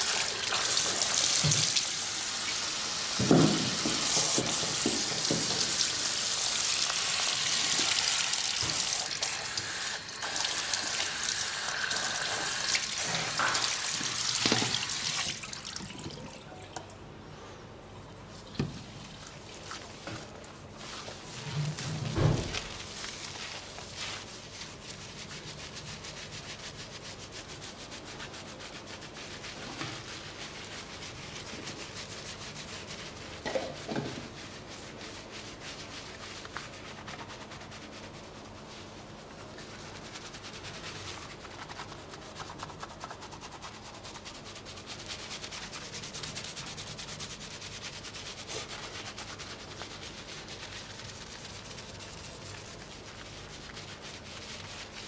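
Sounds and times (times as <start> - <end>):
hands scrubbing lathered hair: 0.0 - 16.0, 18.2 - 55.0.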